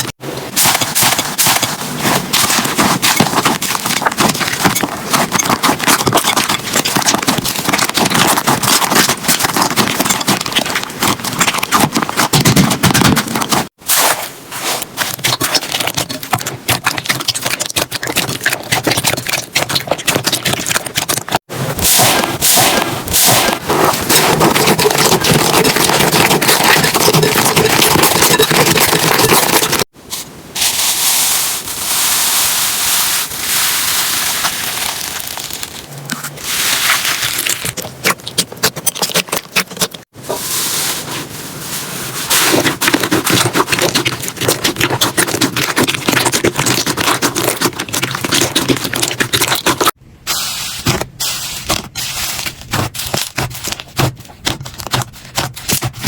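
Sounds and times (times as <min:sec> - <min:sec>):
hands working slime: 0:00.0 - 0:56.0.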